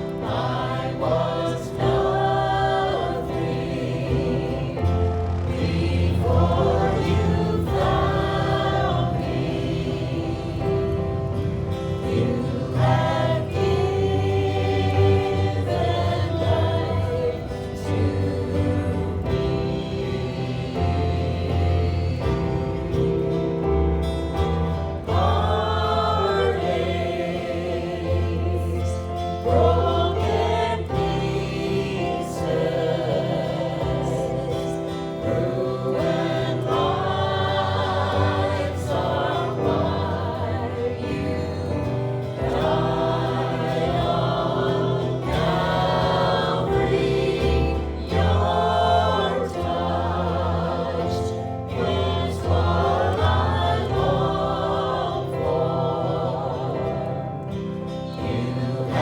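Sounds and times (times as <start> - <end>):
group of voices singing: 0.0 - 59.0
held bass line: 0.0 - 59.0.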